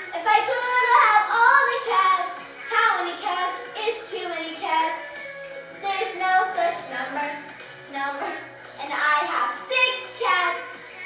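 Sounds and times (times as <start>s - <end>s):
steady musical accompaniment: 0.0s - 11.0s.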